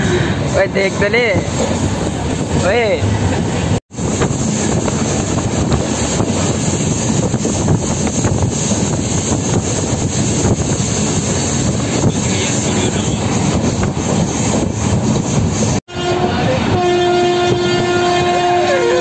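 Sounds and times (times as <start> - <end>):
train wheels rumbling on track: 0.0 - 19.0
wind rushing past microphone: 1.4 - 16.8.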